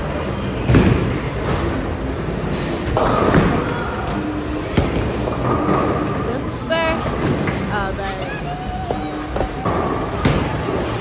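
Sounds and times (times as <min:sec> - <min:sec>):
bowling alley din: 0:00.5 - 0:11.0.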